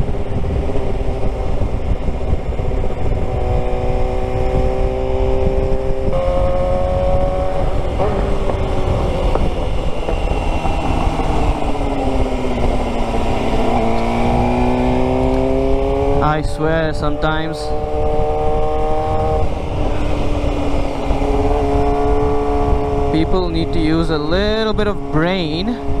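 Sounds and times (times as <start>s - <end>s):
heavy wind noise: 0.0s - 26.0s
motorcycle engine running: 0.0s - 26.0s.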